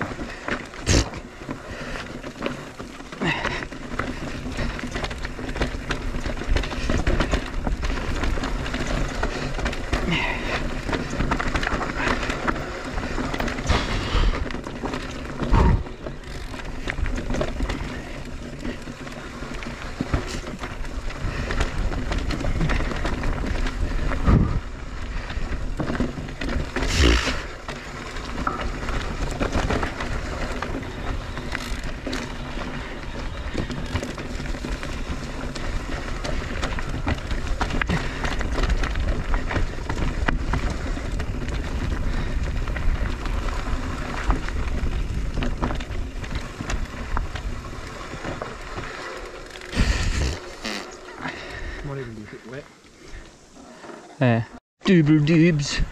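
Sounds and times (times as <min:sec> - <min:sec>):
bike rattling over ground: 0:00.0 - 0:55.9
tyre noise on dirt: 0:00.0 - 0:55.9.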